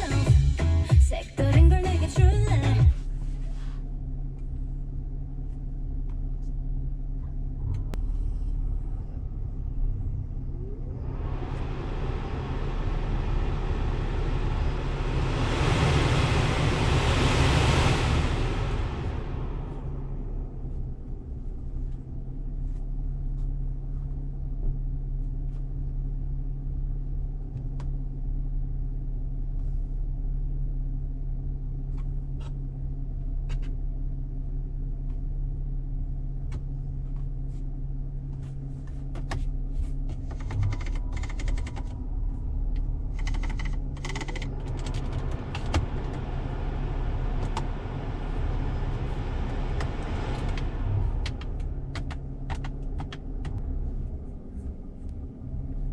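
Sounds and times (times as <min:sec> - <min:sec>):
engine running at low revs: 0:00.0 - 0:55.9
rattling and scraping tyre noise: 0:01.9 - 0:28.0, 0:36.4 - 0:55.9.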